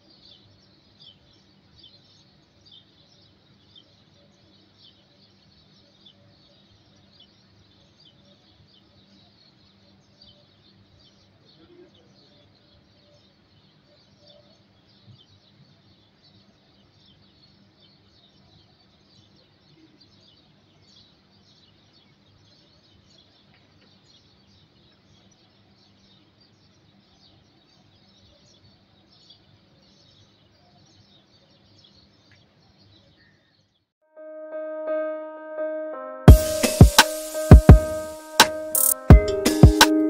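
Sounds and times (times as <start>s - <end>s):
small birds chirping: 0.0s - 33.8s.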